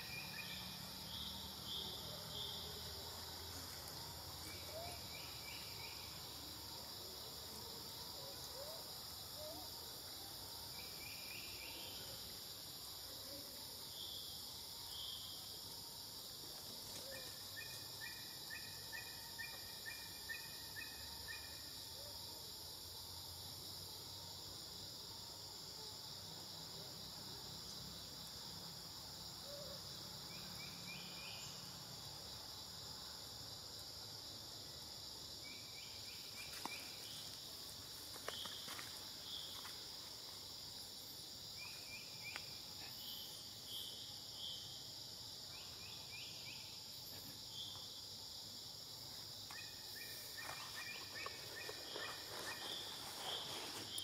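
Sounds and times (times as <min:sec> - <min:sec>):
chorus of forest insects: 0:00.0 - 0:54.0.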